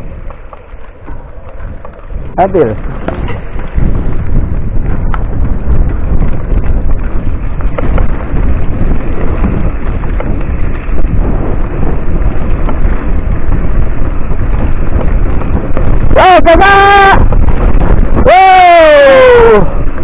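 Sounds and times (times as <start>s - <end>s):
bike knocks and rattles: 0.0s - 18.2s
mountain bike rolling on dirt: 0.0s - 20.0s
wind buffeting microphone: 0.0s - 20.0s.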